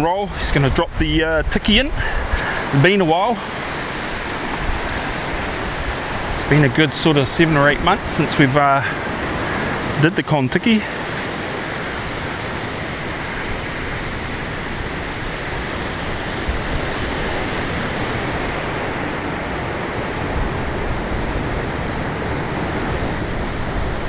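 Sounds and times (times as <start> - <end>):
ocean surf roaring: 0.0 - 24.0
wind: 0.0 - 24.0.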